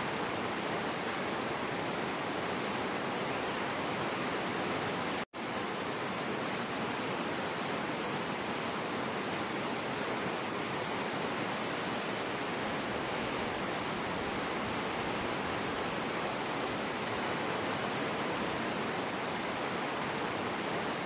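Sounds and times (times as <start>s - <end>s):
river rapids rushing over boulders: 0.0s - 21.0s.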